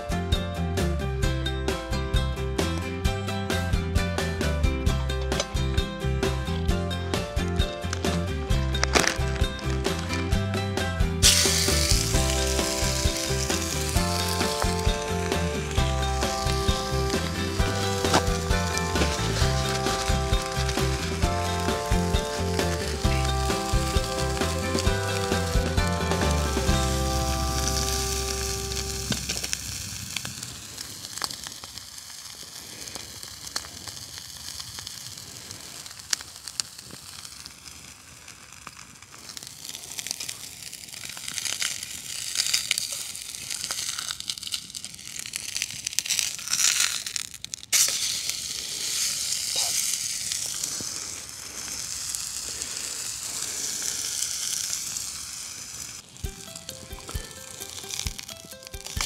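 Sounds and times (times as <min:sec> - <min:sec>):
fat popping: 0:07.2 - 0:10.4, 0:11.2 - 0:35.2, 0:35.8 - 0:55.1, 0:55.9 - 0:59.0
burger patty sizzling in a pan: 0:11.1 - 0:59.0.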